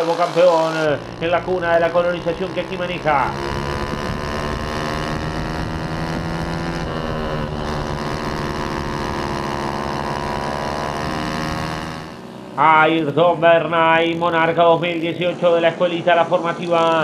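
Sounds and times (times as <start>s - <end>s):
racing kart engine running hard: 0.0s - 17.0s.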